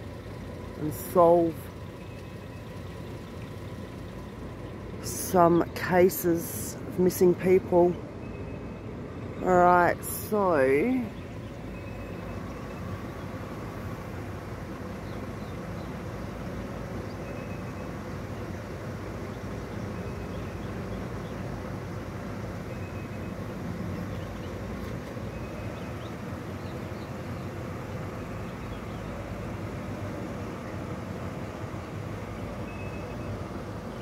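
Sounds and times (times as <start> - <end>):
car engine hum from inside: 0.0 - 34.0.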